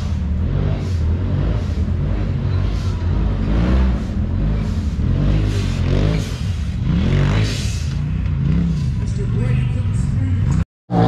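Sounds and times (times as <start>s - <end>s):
utility vehicle engine revving: 0.0s - 9.6s.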